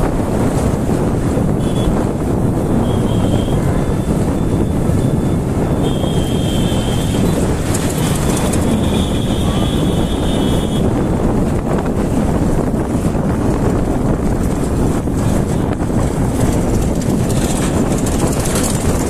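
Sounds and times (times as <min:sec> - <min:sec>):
motorcycle engine and road rumble: 0:00.0 - 0:19.0
wind rushing over microphone: 0:00.0 - 0:19.0.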